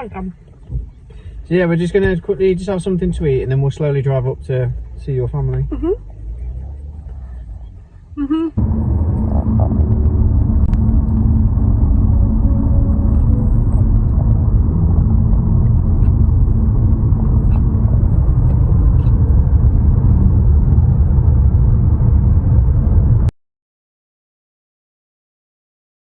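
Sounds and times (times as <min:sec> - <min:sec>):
car engine and road noise: 0:00.0 - 0:23.3.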